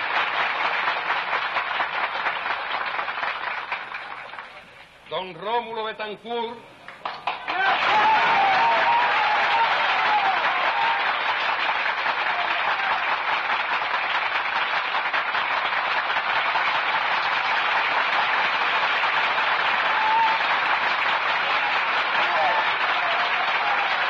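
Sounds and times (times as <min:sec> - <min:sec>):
crowd applauding: 0:00.0 - 0:04.6, 0:07.0 - 0:24.0.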